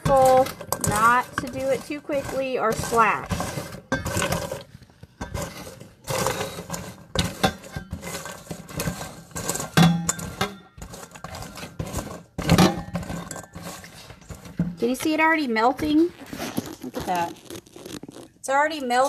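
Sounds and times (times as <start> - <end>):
spoon scraping and clinking: 0.0 - 15.3.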